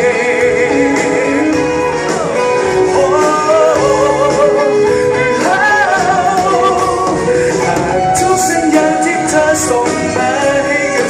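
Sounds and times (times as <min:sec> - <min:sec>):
pop-rock band playing: 0:00.0 - 0:11.0.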